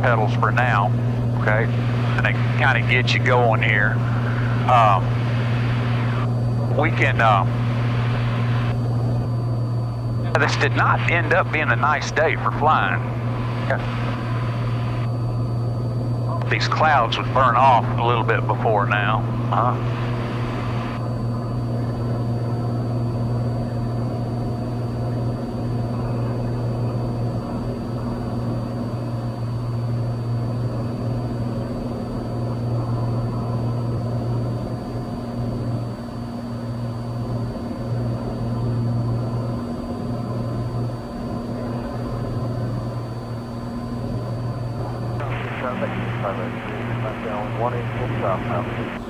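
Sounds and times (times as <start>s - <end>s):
propeller plane engine drone: 0.0s - 49.0s.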